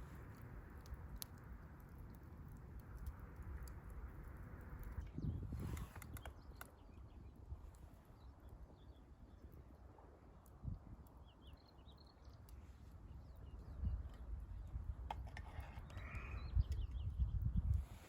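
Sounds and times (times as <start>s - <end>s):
wind rumble on microphone: 0.0s - 9.5s, 10.6s - 11.1s, 13.0s - 18.0s
wood bonfire crackling: 0.0s - 18.0s.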